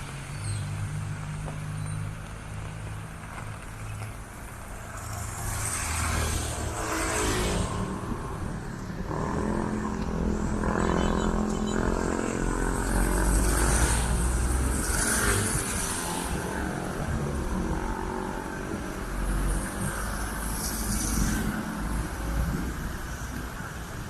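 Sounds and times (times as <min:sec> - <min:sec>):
engine hum: 0:00.0 - 0:24.0
vehicles driving past: 0:00.0 - 0:24.0.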